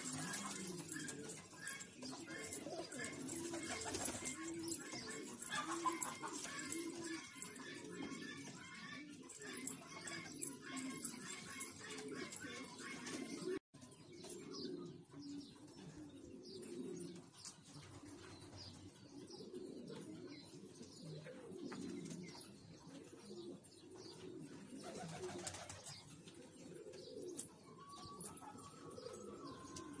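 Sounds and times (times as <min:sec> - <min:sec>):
pigeons cooing: 0:00.0 - 0:13.6, 0:14.2 - 0:30.0.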